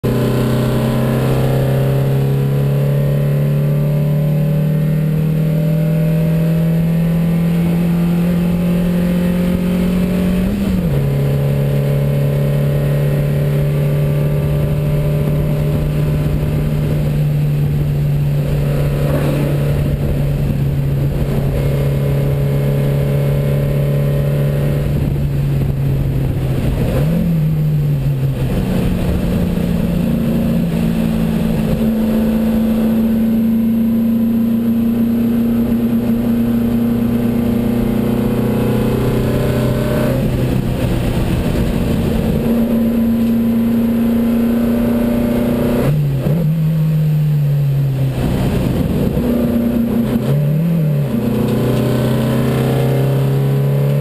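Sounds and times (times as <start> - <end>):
car engine running under load: 0.0 - 54.0.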